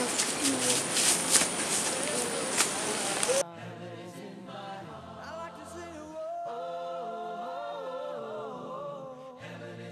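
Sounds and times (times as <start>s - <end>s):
choir singing a slow chant: 1.9s - 9.9s.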